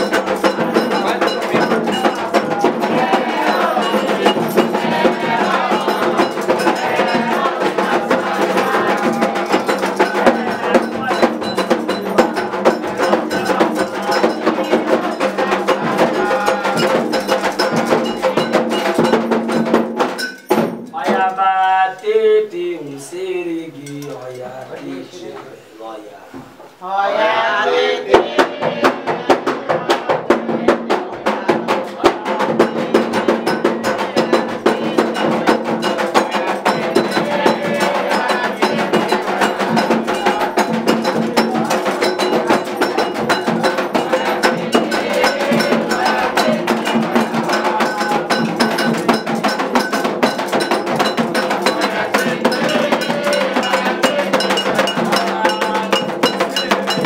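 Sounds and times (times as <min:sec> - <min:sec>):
metal bell ringing rapidly: 0:00.0 - 0:21.3, 0:32.4 - 0:57.0
voices singing: 0:00.0 - 0:57.0.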